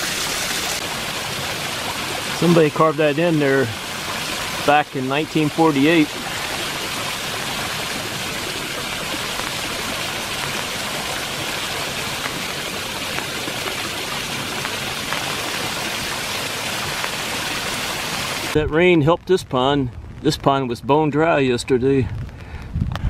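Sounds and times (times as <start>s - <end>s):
small waterfall splashing: 0.0s - 18.6s
water dripping: 0.0s - 18.6s.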